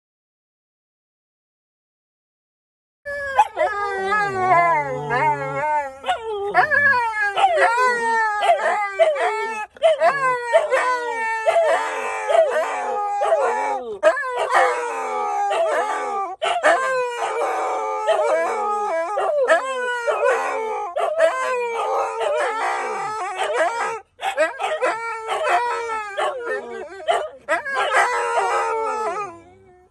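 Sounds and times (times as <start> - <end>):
huskies howling: 3.1 - 29.7.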